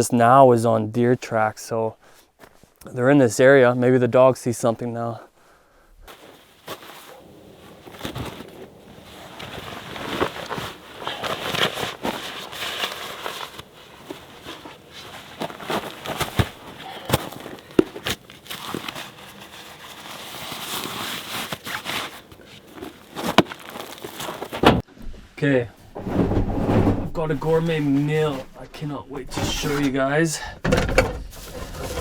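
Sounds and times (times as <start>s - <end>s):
rustling and crinkling: 6.0s - 32.0s.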